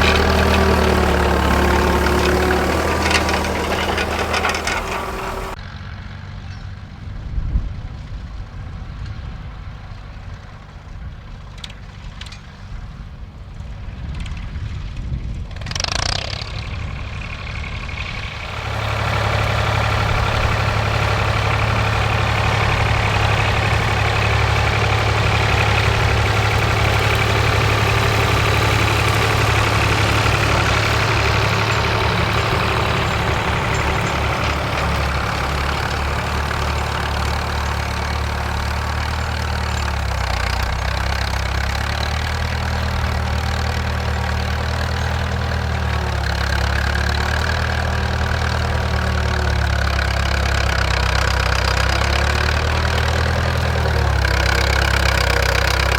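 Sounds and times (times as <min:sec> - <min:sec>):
tractor engine running: 0:00.0 - 0:05.6, 0:15.8 - 0:55.9.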